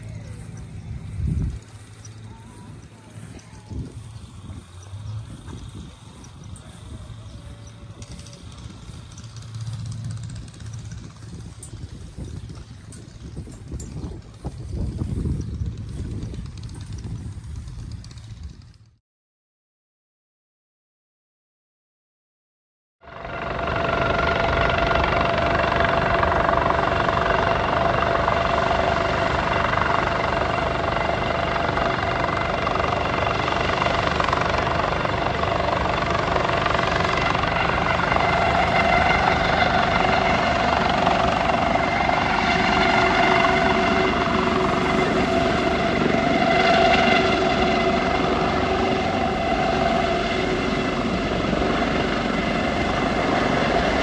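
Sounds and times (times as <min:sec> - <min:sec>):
high turbine whine: 0:00.0 - 0:18.8, 0:23.0 - 0:54.0
helicopter rotor beat: 0:00.0 - 0:19.0, 0:23.0 - 0:54.0.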